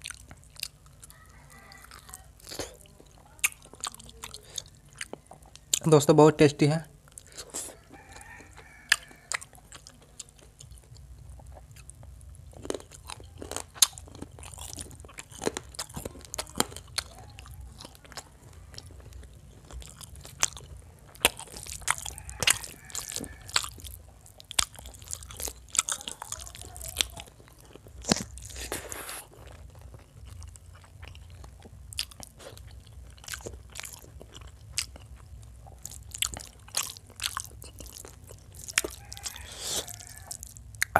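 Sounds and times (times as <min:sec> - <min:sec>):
person chewing and biting: 0:00.0 - 0:06.0, 0:07.1 - 0:40.9
steady low hum: 0:00.0 - 0:40.9.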